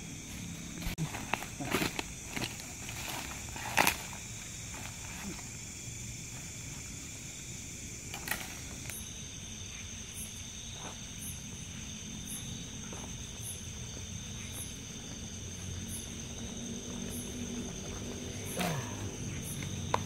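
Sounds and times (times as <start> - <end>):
insect chirping in pulses: 0.0 - 20.0
insects buzzing drone: 0.0 - 20.0.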